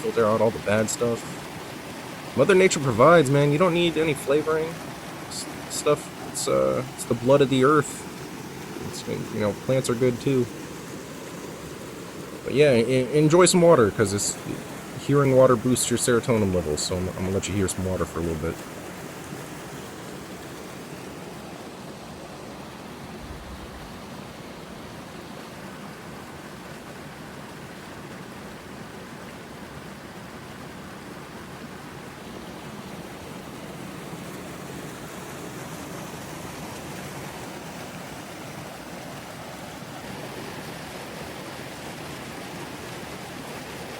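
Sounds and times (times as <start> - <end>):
running water flowing: 0.0 - 43.9.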